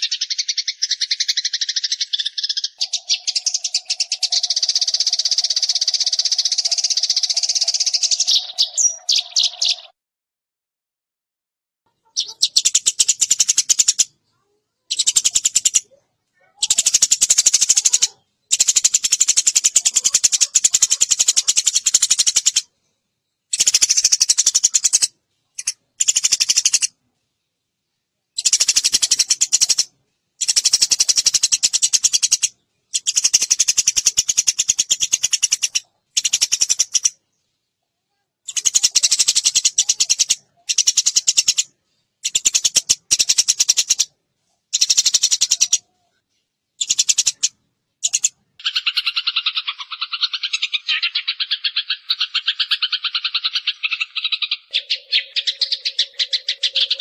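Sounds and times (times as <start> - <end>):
sparrow chirping: 0.0 - 10.0, 11.9 - 27.0, 28.4 - 37.7, 38.5 - 44.1, 44.7 - 46.0, 46.7 - 57.0.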